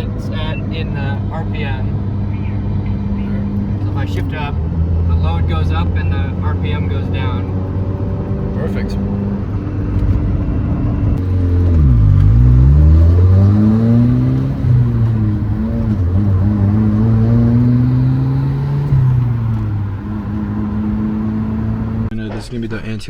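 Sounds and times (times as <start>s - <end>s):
car engine revving through gears: 0.0s - 22.1s.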